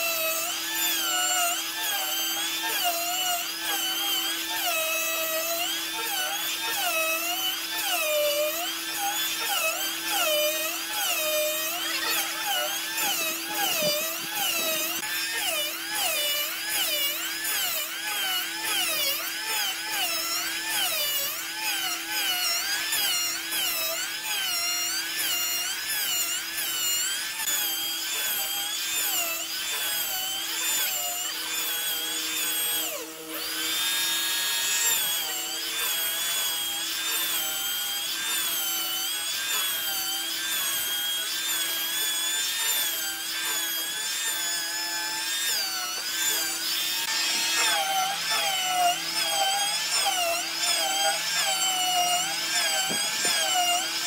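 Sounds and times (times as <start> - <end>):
electric planer motor whine: 0.0 - 54.0.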